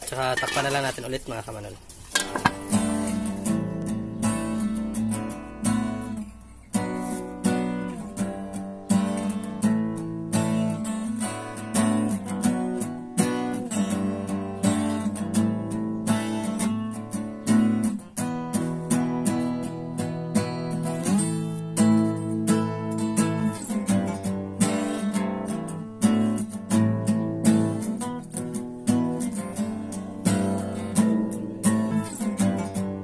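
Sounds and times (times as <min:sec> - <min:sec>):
strummed acoustic guitar chords: 0:02.2 - 0:33.0.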